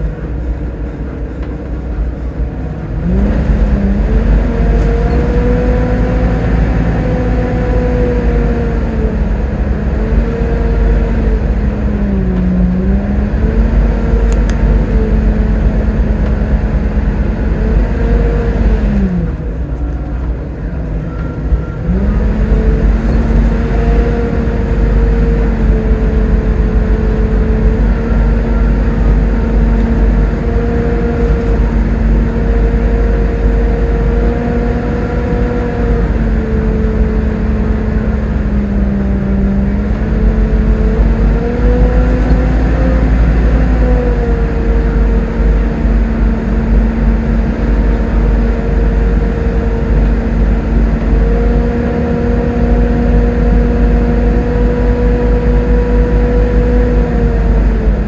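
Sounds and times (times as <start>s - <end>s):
bus engine rumble: 0.0s - 58.0s
driveline whine: 0.0s - 58.0s.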